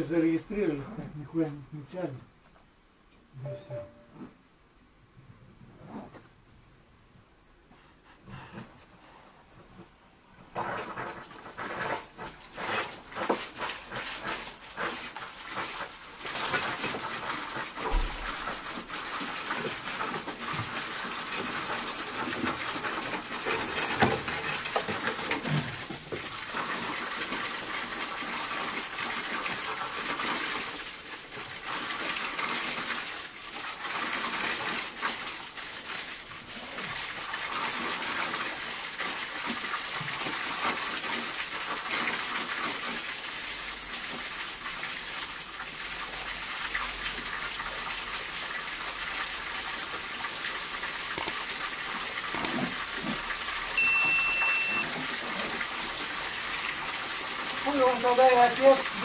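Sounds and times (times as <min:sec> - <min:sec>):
water rushing through pipes: 0:10.4 - 0:59.0.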